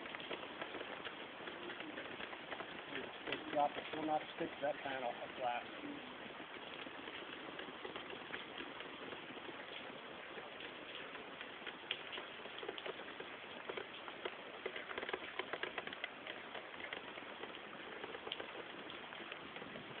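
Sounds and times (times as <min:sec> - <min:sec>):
heavy rain on windshield: 0:00.0 - 0:20.0.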